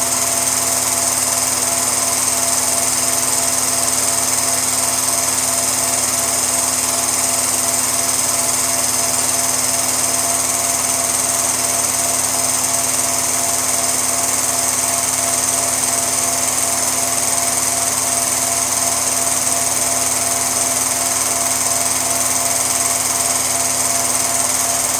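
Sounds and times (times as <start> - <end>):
motor whirring with hum: 0.1 - 24.9.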